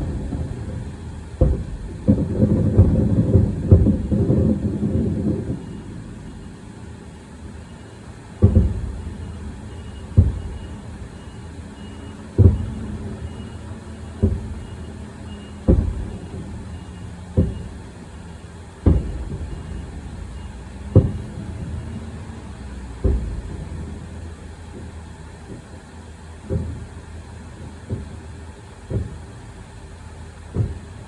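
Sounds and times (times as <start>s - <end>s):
firework shells booming: 0.0s - 31.0s.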